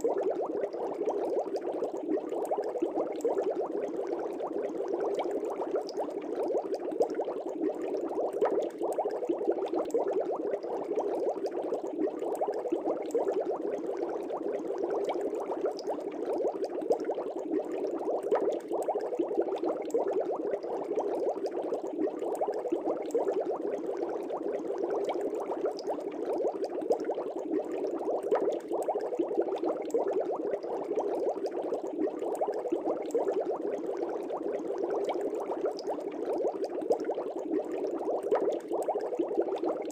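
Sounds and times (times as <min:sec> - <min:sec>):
fish tank air bubbles: 0:00.0 - 0:39.9.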